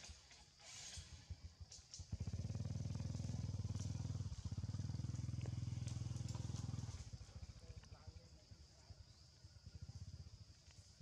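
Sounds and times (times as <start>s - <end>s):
small engine throbbing: 0.1s - 11.0s.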